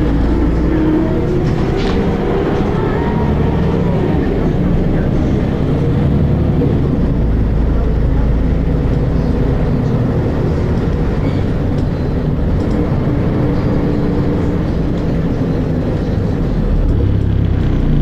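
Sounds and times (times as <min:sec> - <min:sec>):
diesel bus engine rumbling: 0:00.0 - 0:18.0.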